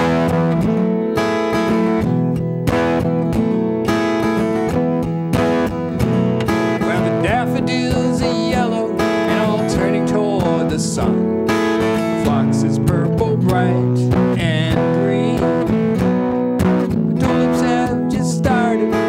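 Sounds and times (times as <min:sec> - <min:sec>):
acoustic guitars strummed and picked: 0:00.0 - 0:19.0.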